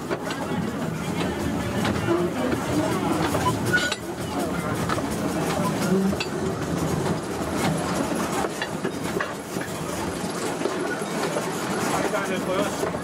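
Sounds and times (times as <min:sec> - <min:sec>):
steam train rolling rumble: 0:00.0 - 0:13.0
wheels clicking over rail joints: 0:00.0 - 0:13.0.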